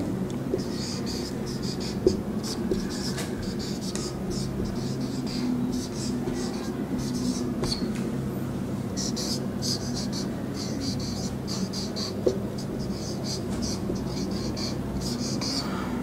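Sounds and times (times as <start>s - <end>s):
steady low hum: 0.0s - 16.0s
marker pen scratching on whiteboard: 0.5s - 7.9s, 9.0s - 15.8s.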